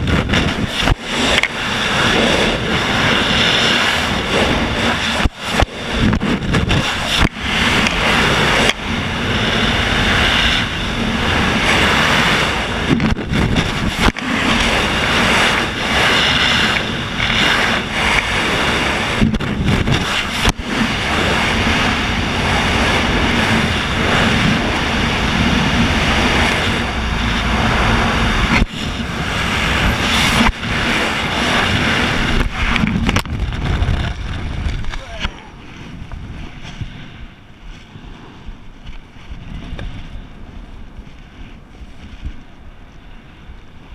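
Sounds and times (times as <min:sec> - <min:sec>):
freefall wind buffeting microphone: 0:00.0 - 0:43.9.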